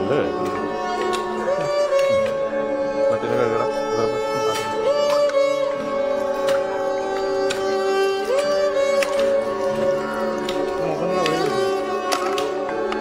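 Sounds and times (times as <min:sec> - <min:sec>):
instrumental music with sliding notes: 0:00.0 - 0:13.0
light percussive taps: 0:00.3 - 0:02.5, 0:04.2 - 0:13.0.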